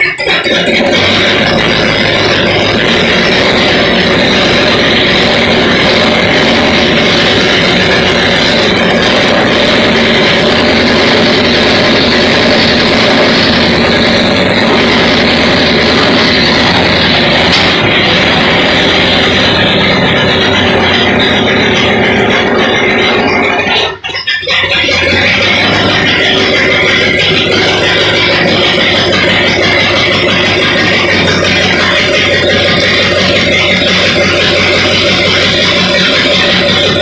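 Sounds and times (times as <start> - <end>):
car engine running loudly: 0.0 - 37.0.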